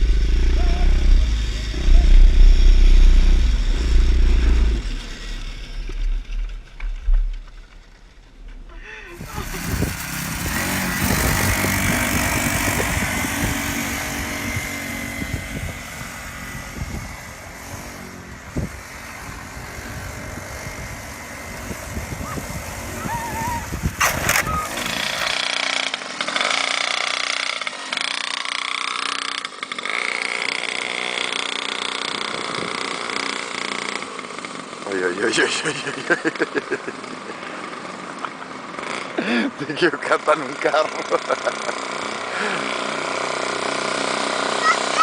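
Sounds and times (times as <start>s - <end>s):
engine revving up and down: 0.0s - 34.1s, 40.2s - 45.0s
dirt bike engines running: 0.0s - 45.0s.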